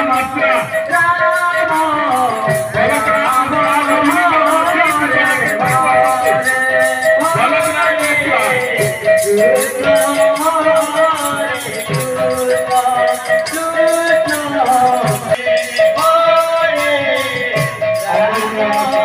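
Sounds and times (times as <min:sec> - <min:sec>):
hand cymbals beating: 0:00.0 - 0:19.0
person singing: 0:00.0 - 0:19.0.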